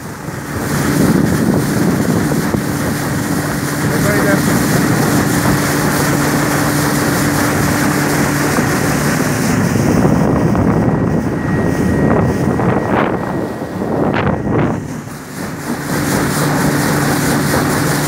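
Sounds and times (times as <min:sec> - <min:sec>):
outboard motor running: 0:00.0 - 0:18.0
water rushing past hull: 0:00.0 - 0:18.0
wind on microphone: 0:00.0 - 0:18.0.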